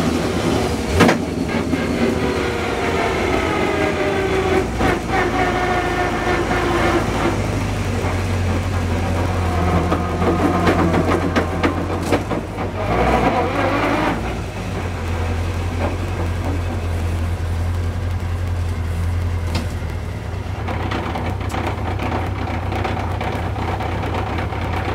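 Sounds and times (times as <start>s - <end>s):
car engine low drone: 0.0s - 24.9s.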